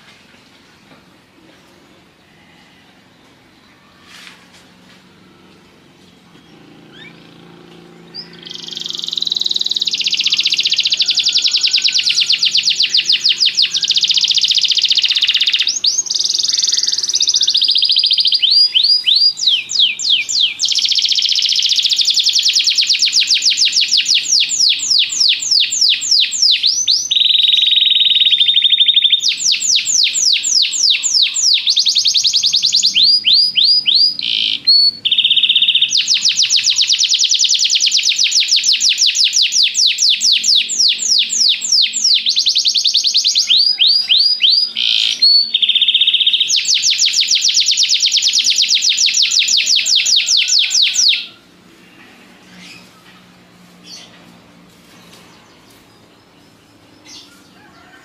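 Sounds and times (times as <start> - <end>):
canary singing trills: 6.1 - 53.2, 54.9 - 58.0.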